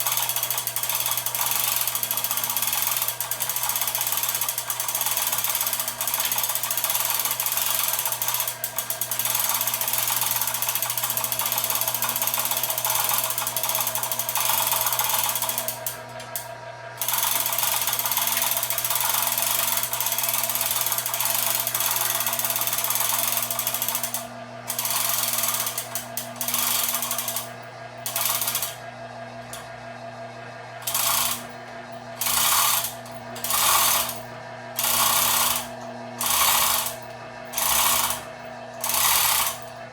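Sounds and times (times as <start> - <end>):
ratcheting mechanical clatter: 0.0 - 16.0, 17.0 - 28.8, 30.8 - 31.5, 32.2 - 34.2, 34.8 - 39.7
motorcycle lift motor hum: 0.0 - 39.9.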